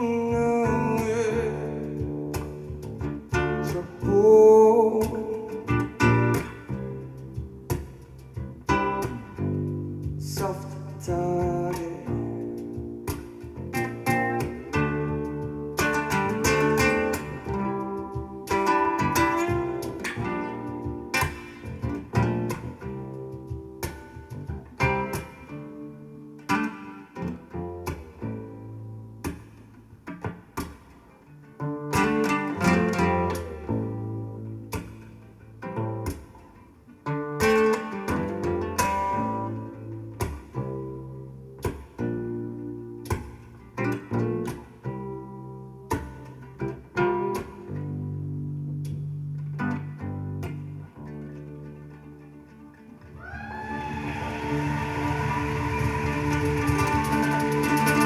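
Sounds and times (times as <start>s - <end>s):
plucked guitar notes: 0.0s - 58.0s.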